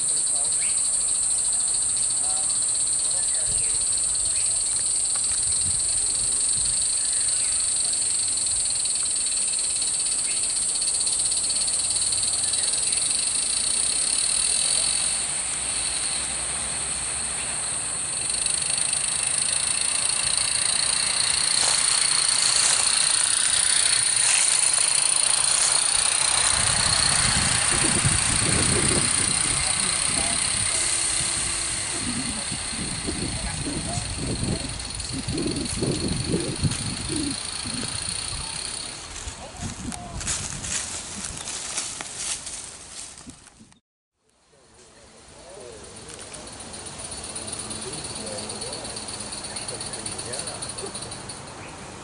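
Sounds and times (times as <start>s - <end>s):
cicadas chorus: 0.0s - 43.4s, 44.6s - 52.0s.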